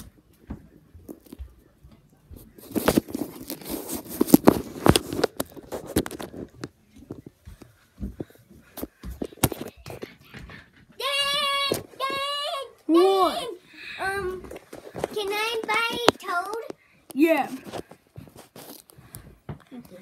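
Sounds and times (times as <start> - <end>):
rustling and crinkling: 2.4 - 13.3, 14.0 - 20.0.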